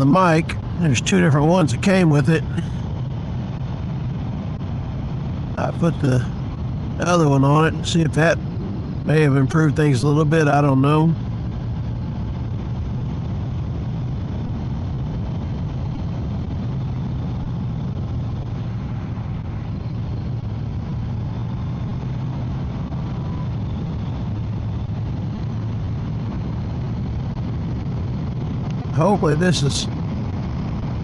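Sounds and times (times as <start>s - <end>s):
motorcycle engine hum: 0.0s - 31.0s
wind noise: 0.0s - 31.0s.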